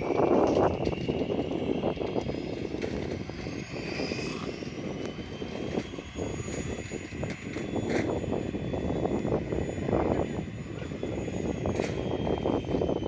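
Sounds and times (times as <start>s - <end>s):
small aircraft engine whine: 0.0s - 13.0s
wind buffeting microphone: 0.0s - 13.0s.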